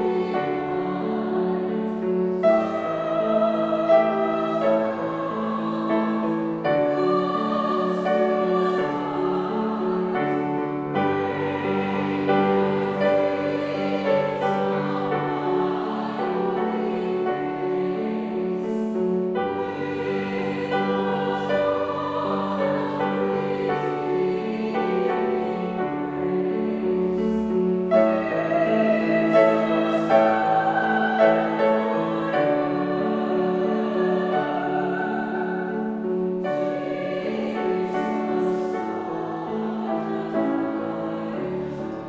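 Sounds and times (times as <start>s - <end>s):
operatic voices singing together: 0.0s - 42.0s
piano accompaniment: 0.0s - 42.0s.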